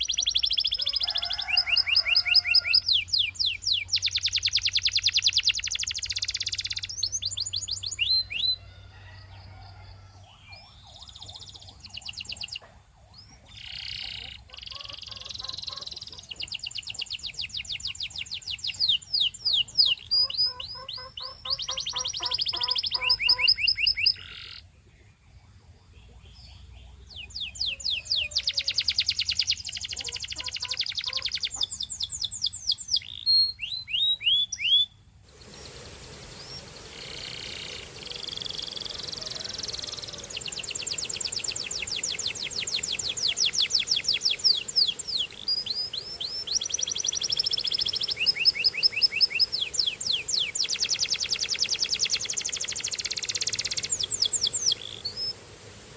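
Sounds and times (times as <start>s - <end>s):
canary singing trills: 0.0s - 8.7s, 9.5s - 35.1s, 36.2s - 55.4s.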